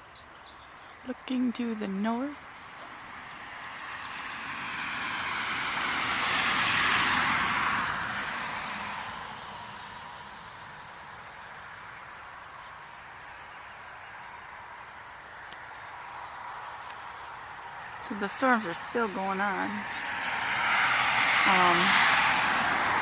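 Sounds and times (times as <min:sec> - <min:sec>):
vehicle passing by: 0:01.5 - 0:23.0.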